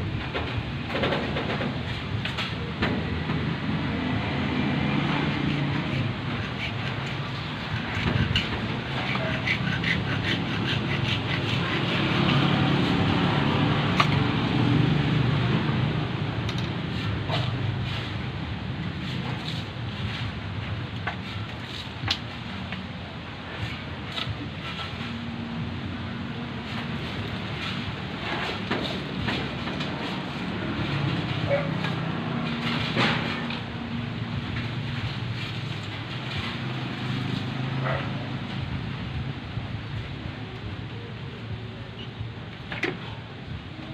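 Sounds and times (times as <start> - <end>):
vehicle rumbling by: 0.0 - 9.9, 10.5 - 21.4, 23.6 - 43.9.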